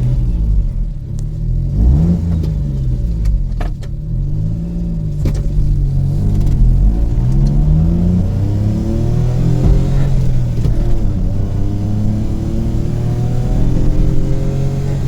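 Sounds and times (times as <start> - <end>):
truck engine revving: 0.0 - 3.3, 4.1 - 15.0.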